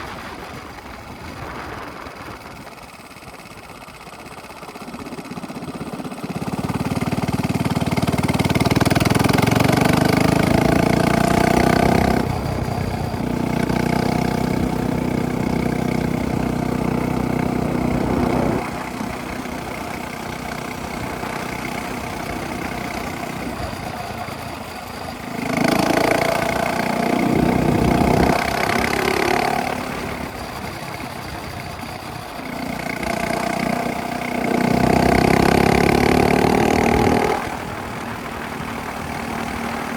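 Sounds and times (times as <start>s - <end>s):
minibike engine revving: 0.0s - 39.9s.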